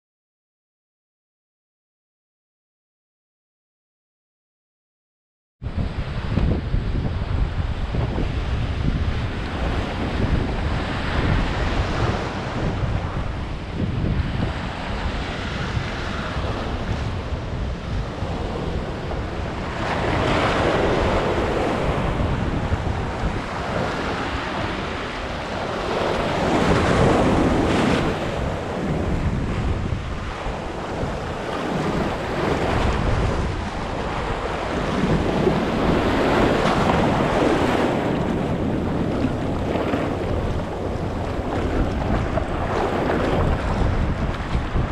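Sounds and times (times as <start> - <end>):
wind buffeting microphone: 5.6 - 44.9
ocean surf breaking: 5.8 - 44.9.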